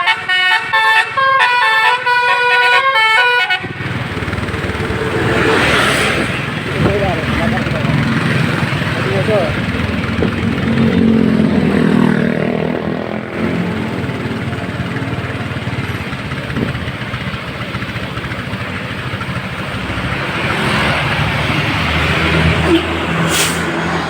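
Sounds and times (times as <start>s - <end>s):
traffic noise: 0.0s - 24.0s
vehicle engine running: 3.6s - 24.0s.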